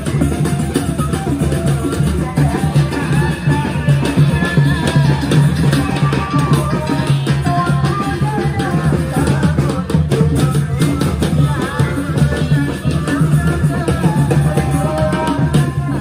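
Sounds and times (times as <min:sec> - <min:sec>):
driving drumming: 0:00.0 - 0:16.0.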